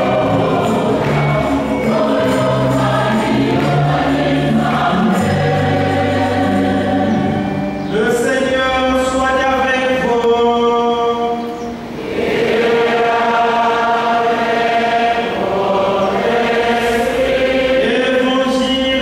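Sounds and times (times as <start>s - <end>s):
liturgical chant singing: 0.0s - 19.0s.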